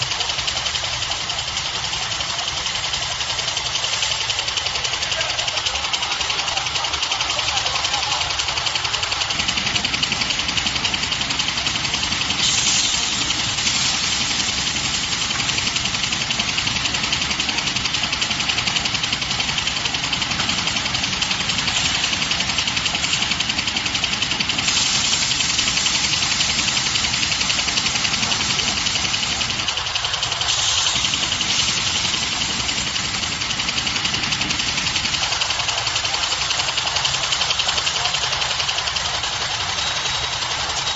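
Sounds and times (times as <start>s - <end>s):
band saw cutting machine running: 0.0s - 40.9s
bright hiss: 7.6s - 40.9s.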